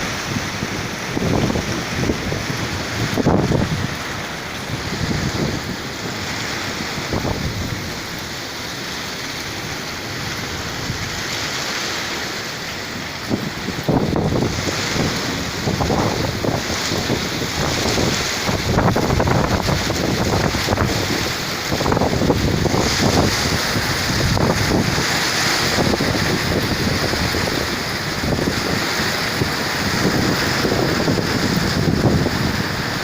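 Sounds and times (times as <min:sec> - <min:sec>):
storm wind on microphone: 0:00.0 - 0:33.0.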